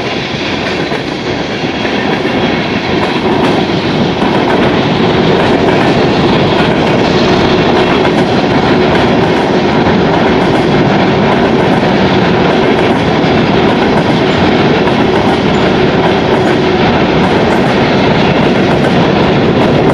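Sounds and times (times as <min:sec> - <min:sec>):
steel wheels rumbling on rails: 0:00.0 - 0:19.9.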